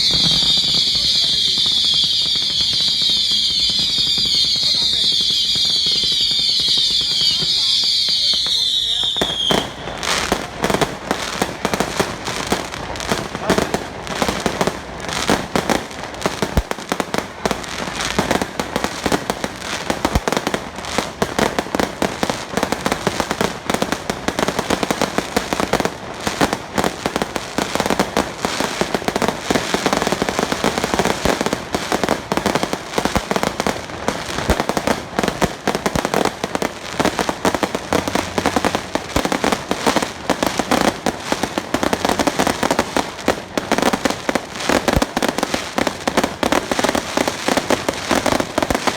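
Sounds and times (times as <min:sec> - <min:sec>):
firecrackers crackling: 0:00.0 - 0:48.9.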